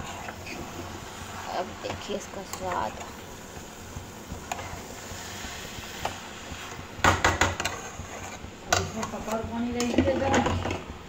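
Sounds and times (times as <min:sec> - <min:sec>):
metal spatula stirring in a pan: 0:00.0 - 0:10.7.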